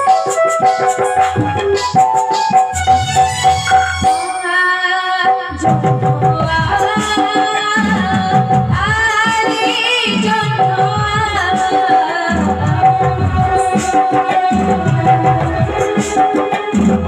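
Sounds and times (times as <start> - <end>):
hand-drum strokes: 0.0 - 4.3, 5.6 - 17.0.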